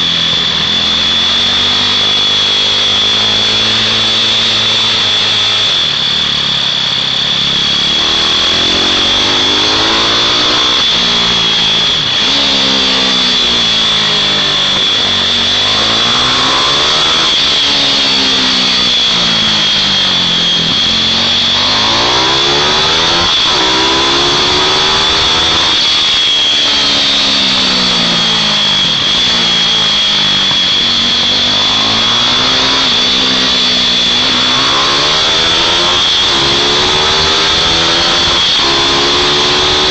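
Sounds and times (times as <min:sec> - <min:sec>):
mini bike engines racing: 0:00.0 - 0:39.9.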